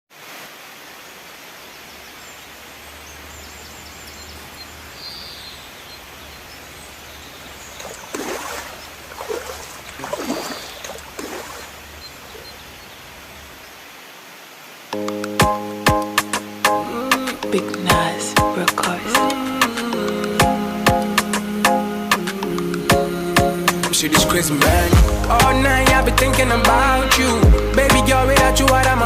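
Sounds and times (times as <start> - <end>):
rain hissing: 0.1 - 29.0.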